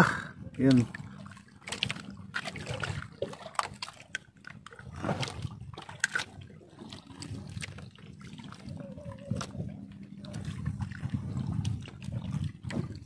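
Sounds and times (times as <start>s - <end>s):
water lapping against boat hull: 0.0s - 13.0s
clicks and knocks handling fish: 0.5s - 13.0s.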